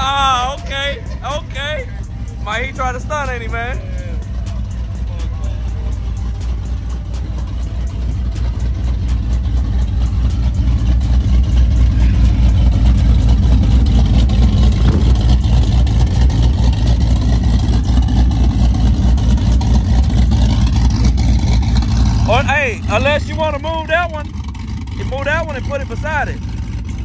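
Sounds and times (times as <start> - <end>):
engine deep exhaust rumble: 0.0 - 27.0.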